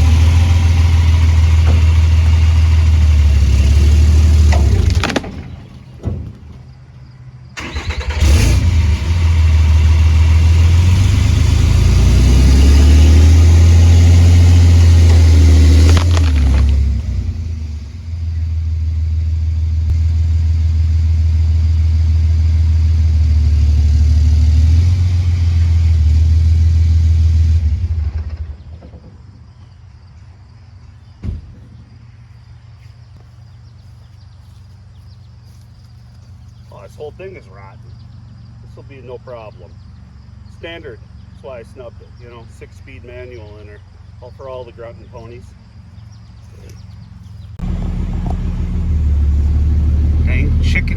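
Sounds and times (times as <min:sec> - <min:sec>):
diesel truck engine revving: 0:00.0 - 0:06.6, 0:07.6 - 0:28.7, 0:36.8 - 0:50.9.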